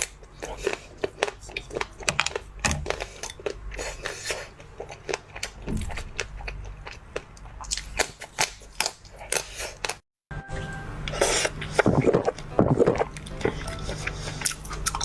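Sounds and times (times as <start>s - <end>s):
person chewing frozen food: 0.0s - 10.0s, 11.1s - 15.0s.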